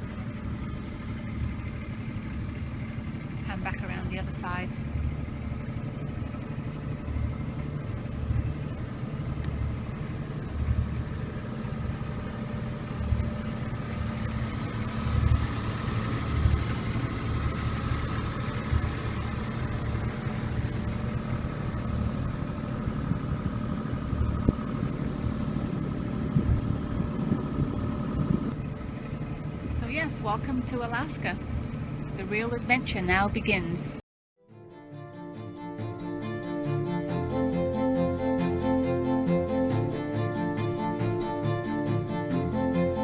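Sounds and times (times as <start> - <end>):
boat engine droning: 0.0 - 34.0, 34.6 - 43.0.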